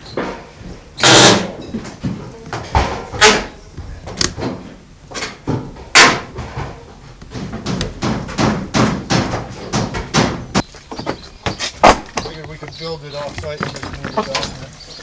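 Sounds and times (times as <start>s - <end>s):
wood knocks and bangs: 0.1s - 14.7s.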